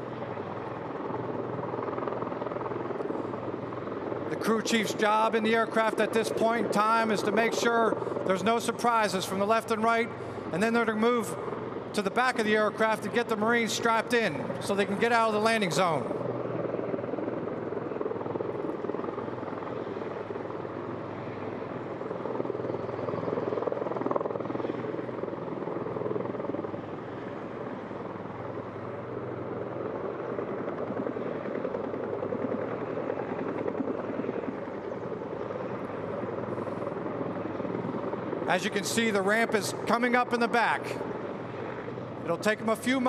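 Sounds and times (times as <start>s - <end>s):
aircraft rotors chopping: 0.0s - 43.0s.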